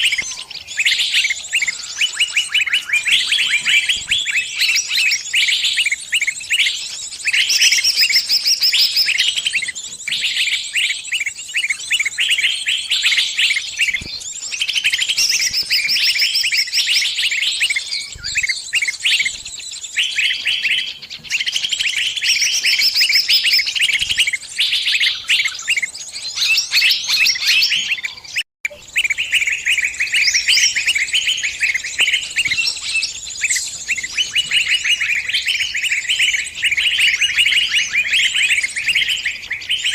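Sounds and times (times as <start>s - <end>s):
bird shrill distress chirps: 0.0s - 39.9s.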